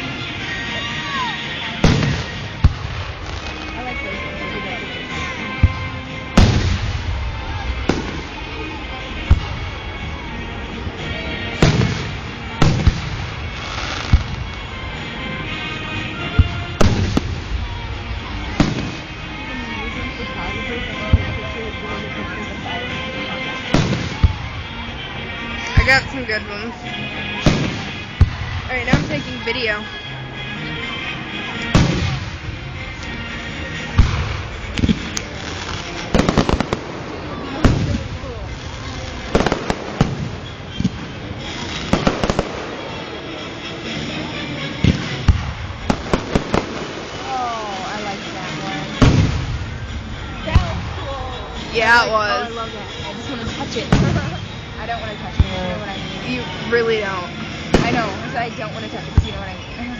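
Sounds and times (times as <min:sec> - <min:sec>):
crackling hiss: 0:00.0 - 0:04.6, 0:05.2 - 0:21.4, 0:30.0 - 0:59.9
background music: 0:00.0 - 0:59.9
fireworks bangs: 0:00.0 - 0:59.9.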